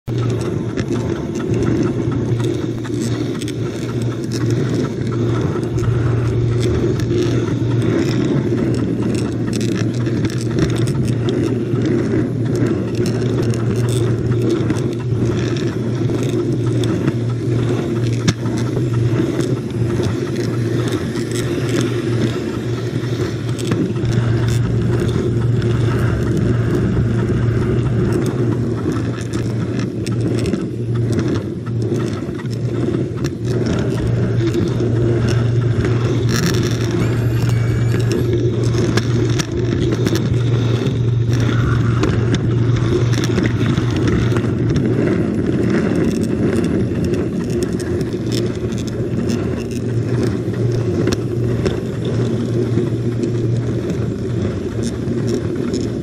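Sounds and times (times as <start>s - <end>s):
wheels ticking on rails: 0.0s - 56.0s
model train motor hum: 0.1s - 56.0s.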